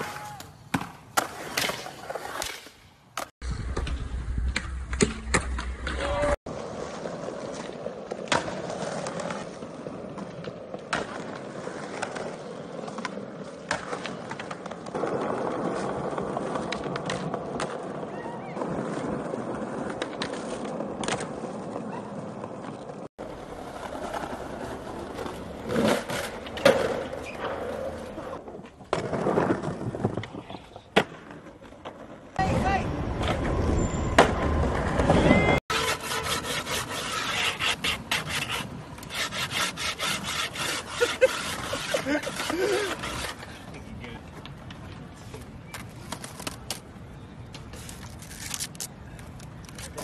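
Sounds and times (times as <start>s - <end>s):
skateboard wheels rolling on concrete: 0.0s - 50.0s.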